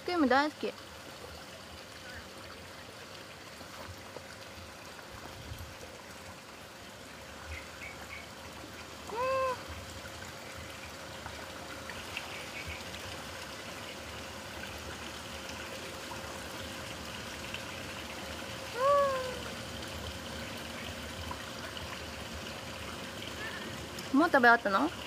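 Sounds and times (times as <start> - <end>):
trickle of running water: 0.0 - 25.0.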